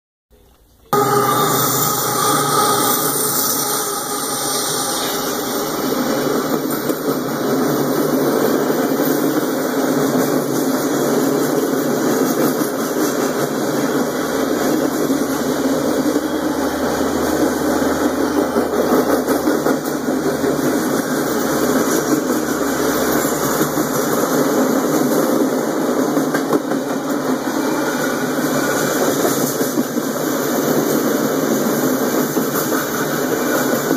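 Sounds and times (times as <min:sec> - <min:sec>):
diesel locomotive passing: 0:01.0 - 0:33.9
freight car wheels rolling on rail: 0:01.0 - 0:33.9.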